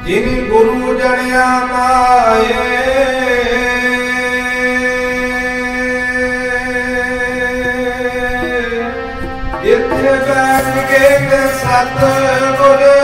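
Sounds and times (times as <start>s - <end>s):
harmonium holding a chord: 0.0s - 13.0s.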